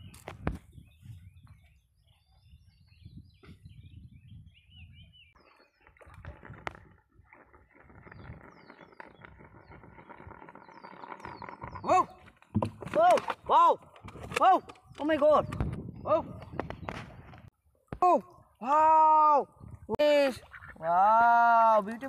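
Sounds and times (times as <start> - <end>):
birds chirping: 0.0 - 6.8, 7.8 - 22.0.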